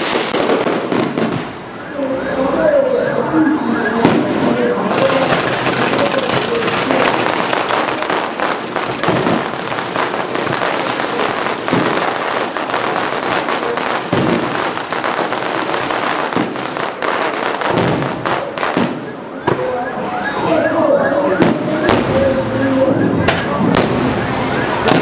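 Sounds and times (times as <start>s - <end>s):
fireworks crackling and popping: 0.0s - 1.8s, 4.0s - 19.6s, 21.4s - 25.0s.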